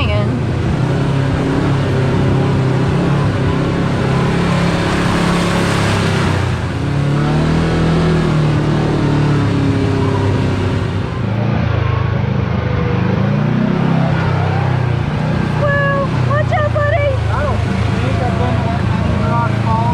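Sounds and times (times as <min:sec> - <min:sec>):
utility vehicle engine running: 0:00.0 - 0:19.9.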